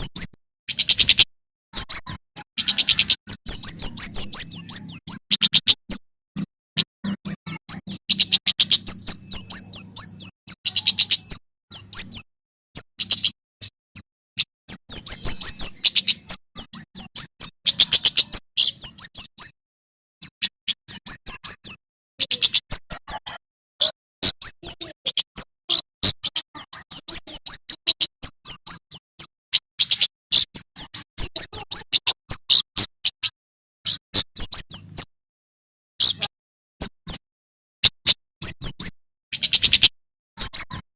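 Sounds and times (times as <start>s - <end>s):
bird singing high-pitched chirps: 0.0s - 19.6s, 20.2s - 35.2s, 36.0s - 40.9s.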